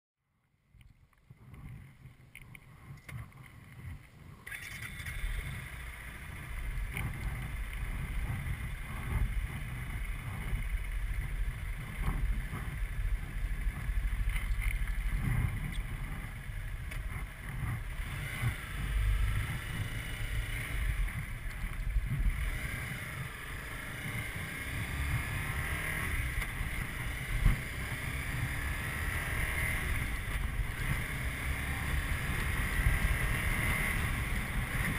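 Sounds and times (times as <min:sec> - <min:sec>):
wind rumble on microphone: 0:00.6 - 0:34.9
motorcycle engine riding: 0:01.1 - 0:34.9.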